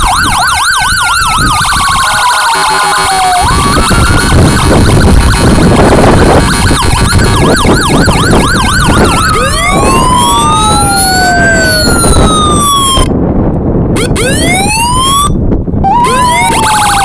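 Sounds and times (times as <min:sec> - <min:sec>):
emergency vehicle sirens: 0:00.0 - 0:13.3, 0:13.9 - 0:17.0.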